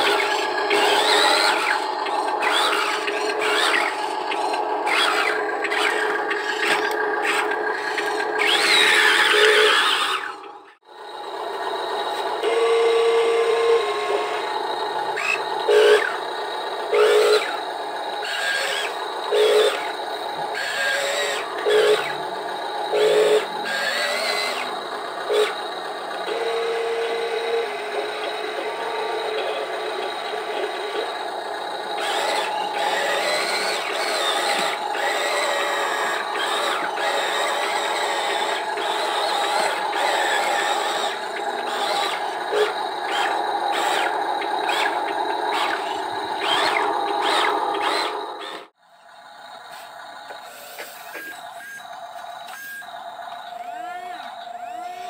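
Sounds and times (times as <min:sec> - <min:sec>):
toy truck motors whining: 0:00.0 - 0:55.0.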